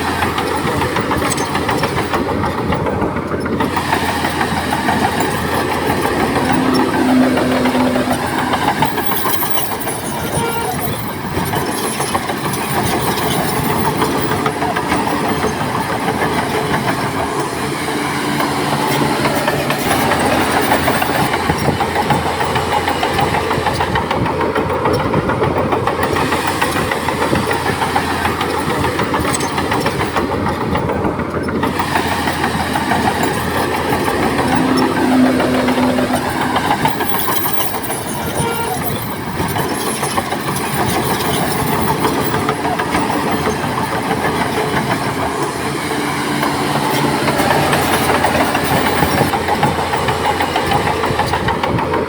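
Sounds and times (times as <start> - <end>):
heavy diesel machinery running: 0.0 - 52.0.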